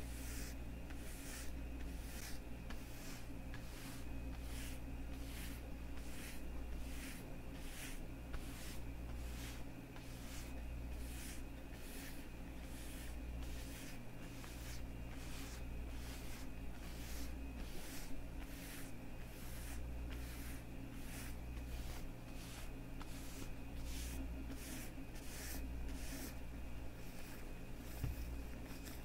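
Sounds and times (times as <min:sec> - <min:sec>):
leather gloves rubbing together: 0:00.0 - 0:29.0.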